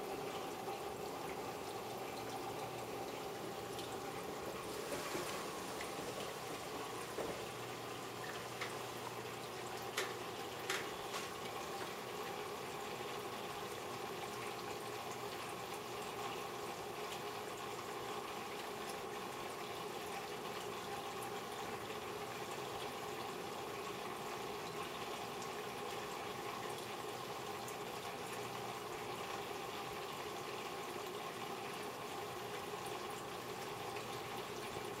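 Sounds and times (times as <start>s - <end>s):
water running through tank filter: 0.0s - 35.0s.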